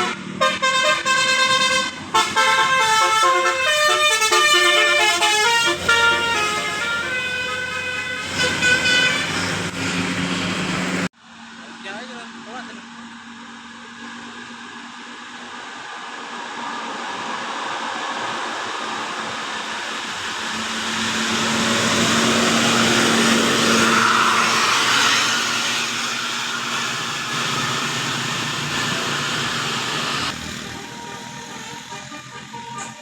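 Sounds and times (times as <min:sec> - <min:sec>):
bus driving past: 0:00.0 - 0:33.0.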